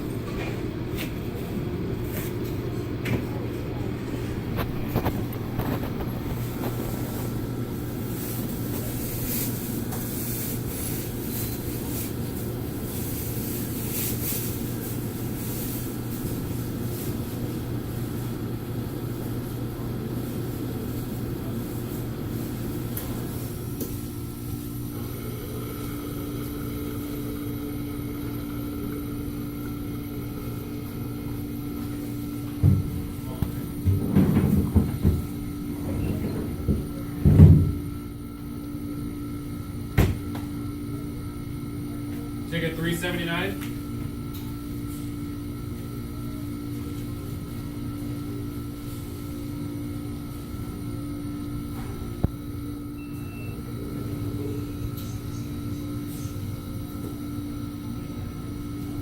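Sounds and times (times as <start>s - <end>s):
low machinery hum: 0.0s - 59.0s.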